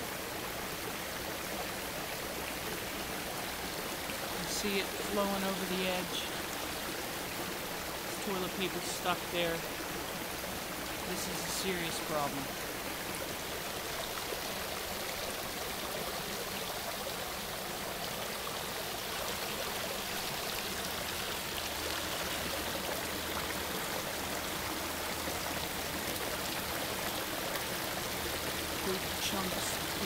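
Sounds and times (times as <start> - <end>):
water rushing from manhole: 0.0 - 30.0.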